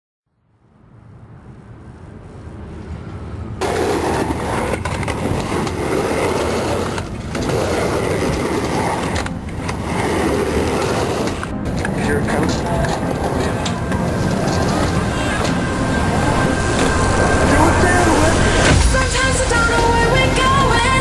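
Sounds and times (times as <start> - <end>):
skateboard wheels rolling: 3.6 - 21.0.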